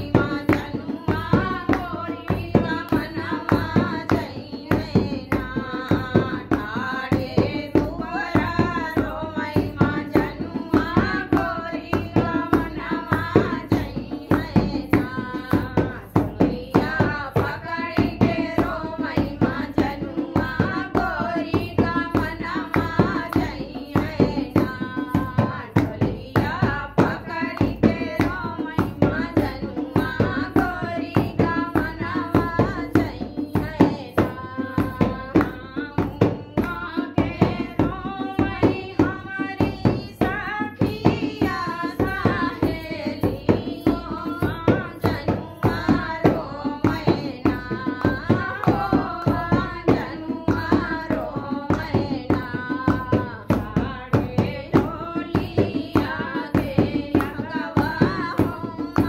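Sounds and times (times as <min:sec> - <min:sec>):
fast percussive beat: 0:00.0 - 0:59.0
women singing folk song: 0:00.0 - 0:59.0.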